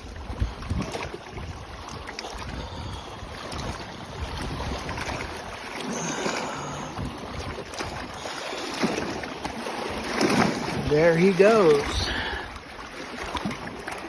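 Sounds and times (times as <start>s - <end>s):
lake water lapping: 0.0s - 14.0s
wind buffeting microphone: 0.0s - 14.0s.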